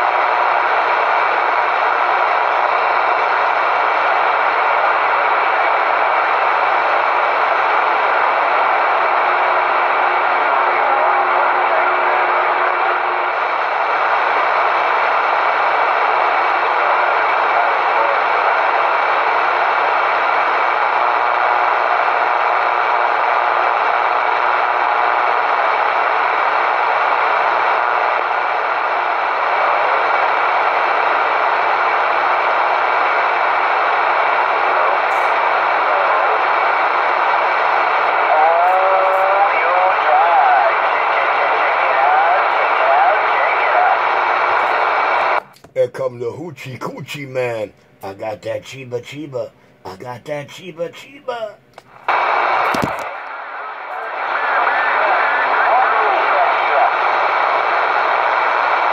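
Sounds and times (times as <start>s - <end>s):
radio static hiss: 0.0s - 58.9s.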